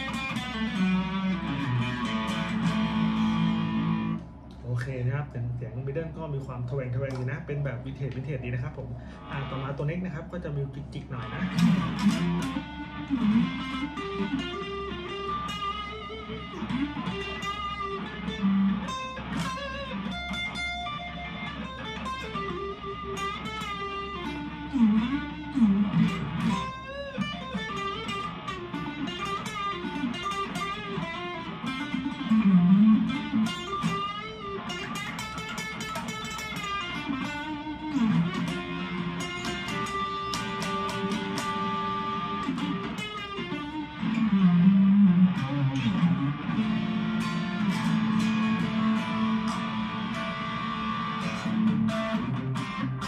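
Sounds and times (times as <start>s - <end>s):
electric guitar lead runs: 0.0s - 4.9s, 5.9s - 53.0s
faint mains hum: 0.0s - 53.0s.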